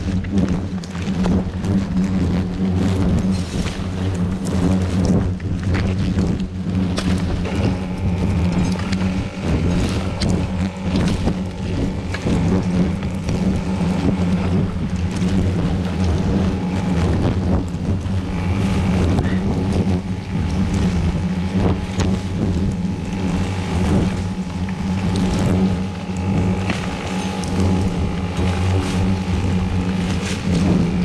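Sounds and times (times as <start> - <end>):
hornets buzzing: 0.0 - 31.0.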